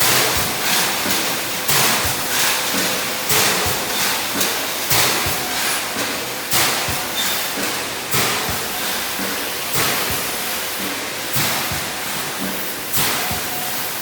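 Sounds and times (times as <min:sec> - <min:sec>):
welding machine hiss: 0:00.0 - 0:14.0.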